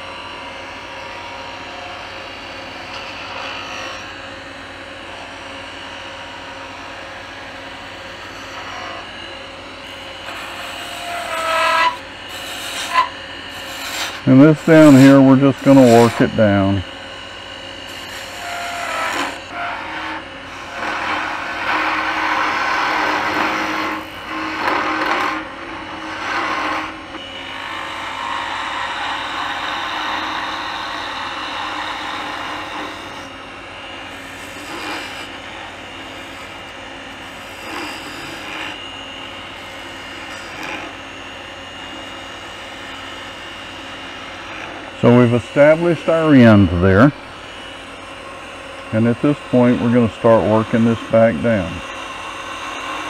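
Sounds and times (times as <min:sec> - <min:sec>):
lathe running hum: 0:00.0 - 0:53.0
turning tool cutting wood: 0:02.8 - 0:53.0.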